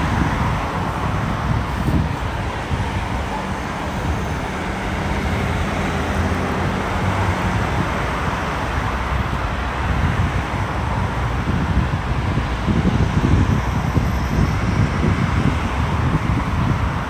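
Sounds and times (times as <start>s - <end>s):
cars driving past: 0.0s - 17.0s
hum of engines and tyres: 0.0s - 17.0s.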